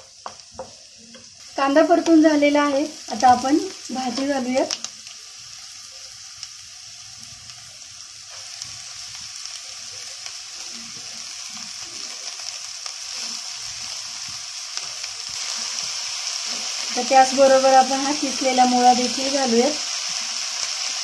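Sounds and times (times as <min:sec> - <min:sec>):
oil sizzling in a frying pan: 0:00.0 - 0:21.0.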